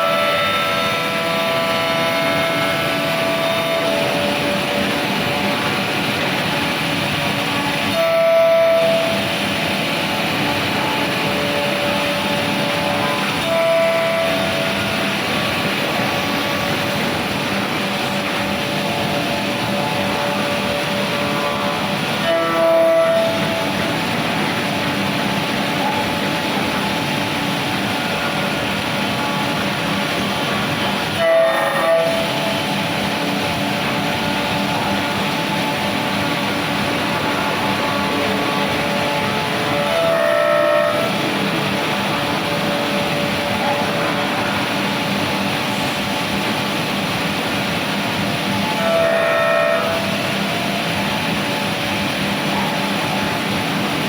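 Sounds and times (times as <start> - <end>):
cnc machine milling wood: 0.0 - 54.0.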